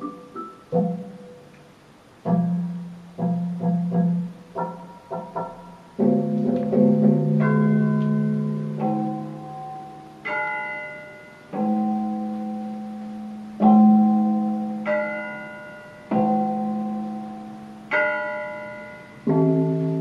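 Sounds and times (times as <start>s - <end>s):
electronic keyboard chords: 0.0s - 20.0s.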